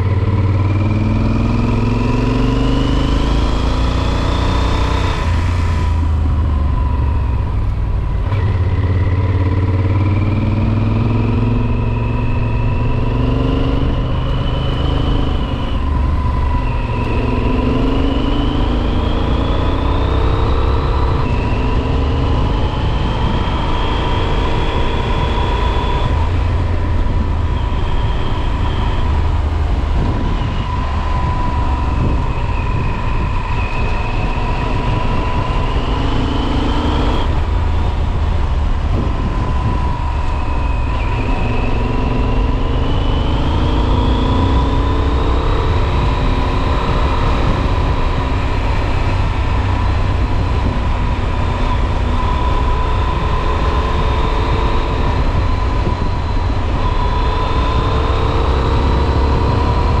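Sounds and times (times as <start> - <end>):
wind and road rumble: 0.0 - 60.0.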